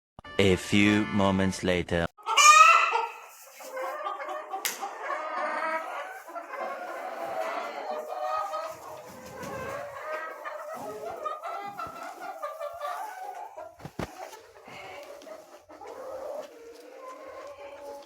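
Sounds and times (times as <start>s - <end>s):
chickens clucking: 2.2s - 18.0s.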